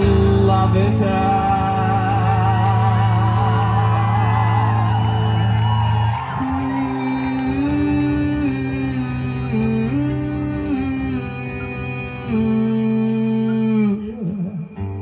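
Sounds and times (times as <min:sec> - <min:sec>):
man singing with vibrato: 0:00.0 - 0:05.2, 0:06.3 - 0:14.8
acoustic band playing: 0:00.0 - 0:15.0.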